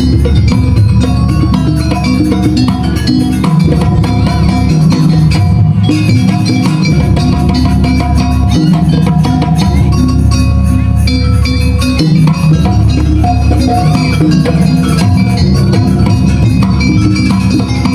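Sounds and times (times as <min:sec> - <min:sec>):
gamelan metal mallet instruments: 0:00.0 - 0:17.9
steady drumming: 0:00.0 - 0:17.9.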